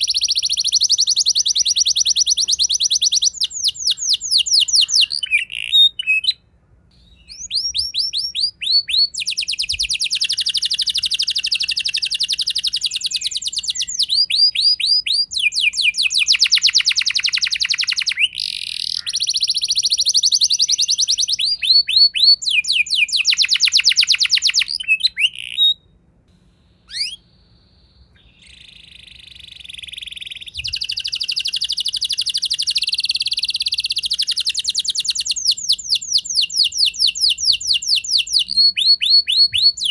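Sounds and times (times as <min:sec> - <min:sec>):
canary singing trills: 0:00.0 - 0:26.0, 0:26.6 - 0:39.9.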